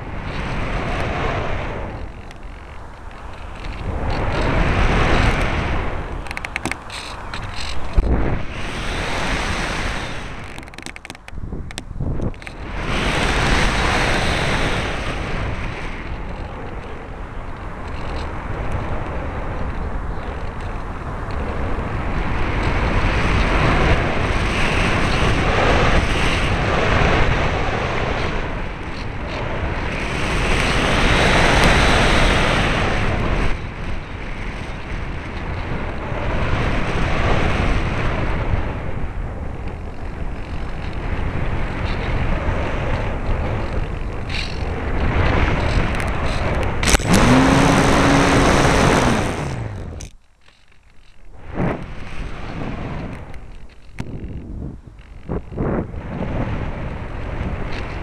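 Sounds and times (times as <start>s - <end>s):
wind buffeting microphone: 0.0s - 50.2s, 51.0s - 58.0s.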